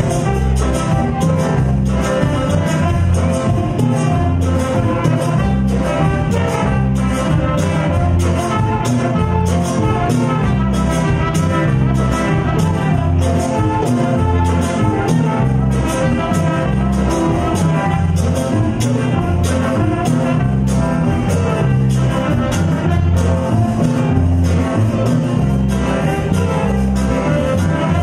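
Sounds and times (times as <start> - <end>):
electric guitar: 0.0 - 28.0
keyboard: 0.0 - 28.0
percussion beat: 0.0 - 28.0
saxophones: 0.0 - 28.0.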